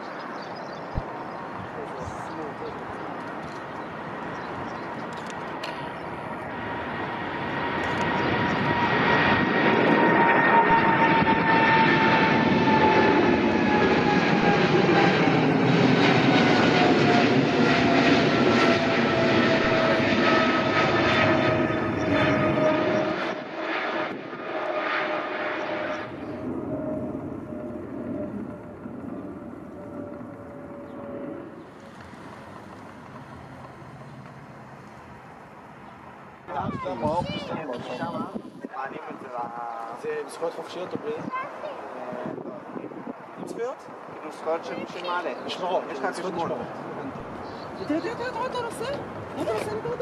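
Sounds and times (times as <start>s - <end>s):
jet airliner taking off: 0.1s - 50.0s.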